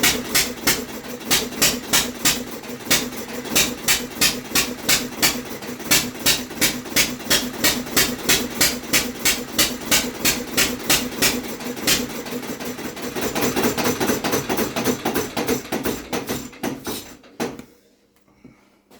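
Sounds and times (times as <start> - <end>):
old petrol engine firing: 0.0 - 17.4.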